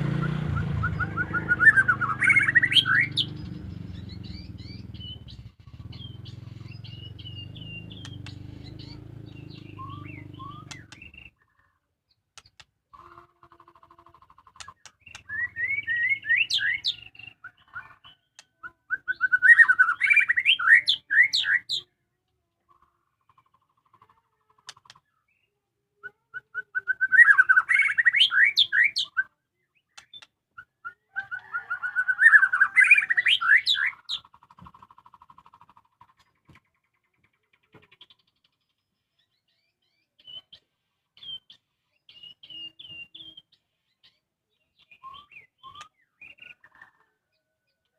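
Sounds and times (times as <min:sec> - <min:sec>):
bird singing chirping notes: 0:00.0 - 0:47.9.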